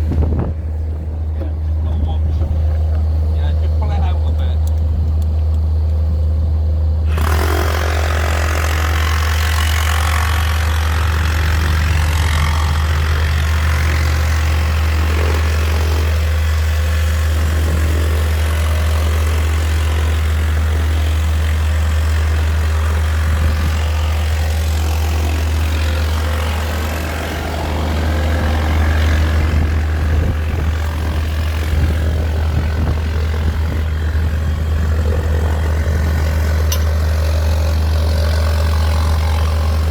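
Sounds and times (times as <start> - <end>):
large engine humming: 0.0 - 39.9.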